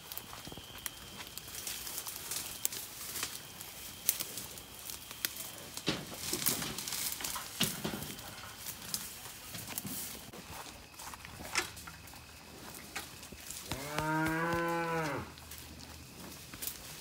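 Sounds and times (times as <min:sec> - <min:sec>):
cattle hoof steps: 0:00.0 - 0:17.0
rustling grass and leaves: 0:00.0 - 0:17.0.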